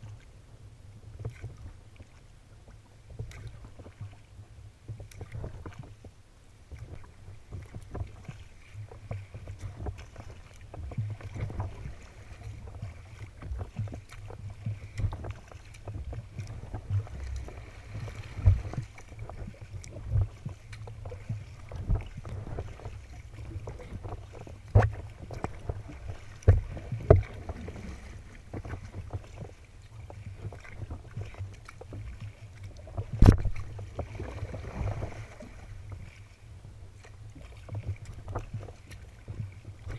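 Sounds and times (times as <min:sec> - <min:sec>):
water splashing against kayak hull: 0:00.0 - 0:39.9
wind rumble on microphone: 0:00.0 - 0:39.9
waves slapping the bow: 0:01.1 - 0:39.9.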